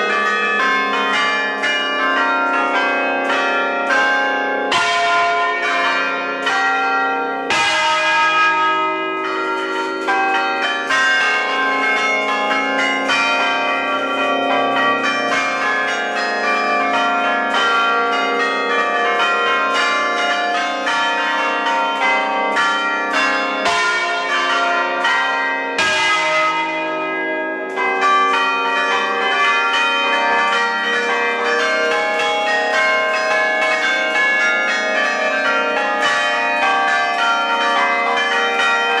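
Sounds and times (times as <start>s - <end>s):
church bells pealing: 0.0s - 39.0s.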